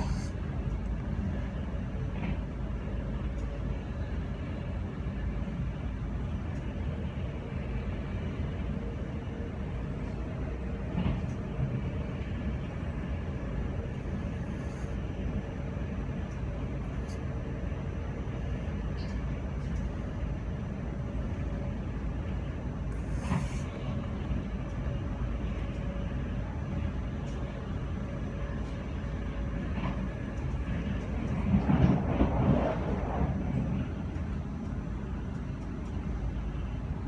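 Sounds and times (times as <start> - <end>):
train rumble from inside carriage: 0.0 - 37.0.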